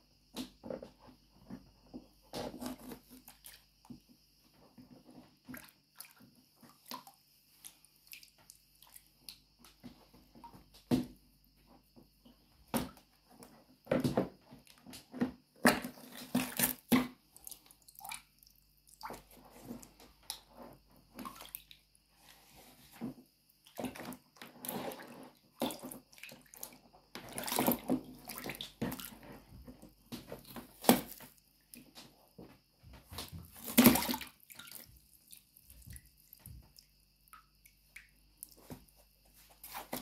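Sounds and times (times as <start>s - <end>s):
water sloshing in a bucket: 0.3s - 40.0s.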